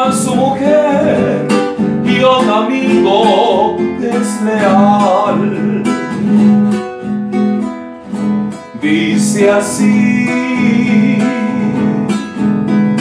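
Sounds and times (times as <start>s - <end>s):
man singing: 0.0s - 6.8s, 8.7s - 12.4s
classical guitar strumming: 0.0s - 13.0s.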